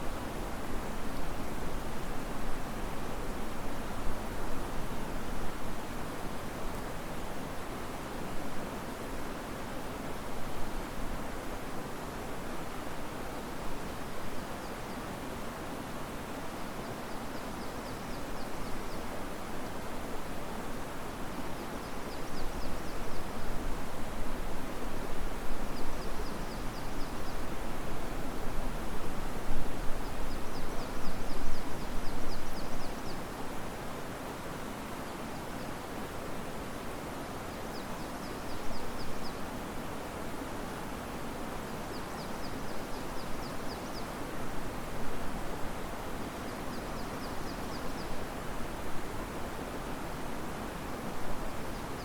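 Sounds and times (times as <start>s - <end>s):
wind rustling leaves: 0.0s - 52.0s.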